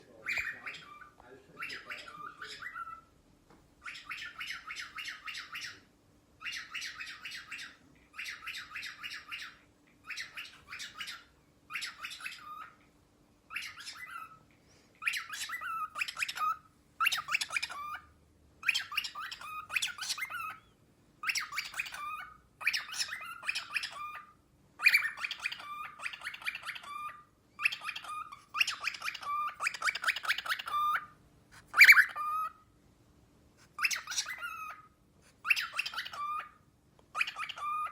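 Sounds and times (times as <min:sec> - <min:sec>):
cockatiel chirping and whistling: 0:00.1 - 0:03.1, 0:03.8 - 0:12.9, 0:13.5 - 0:14.4, 0:15.0 - 0:32.6, 0:33.6 - 0:37.9.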